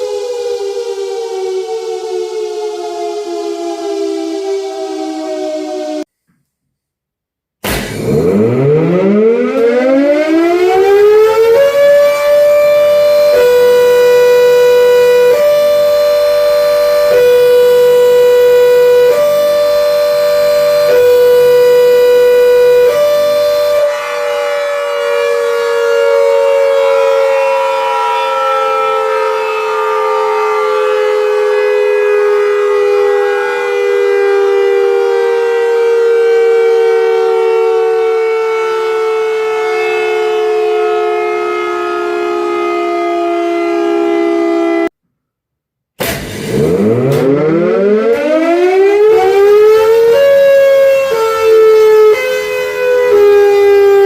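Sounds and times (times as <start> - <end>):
air raid siren wailing: 0.0 - 6.1, 7.9 - 45.0, 46.2 - 54.0.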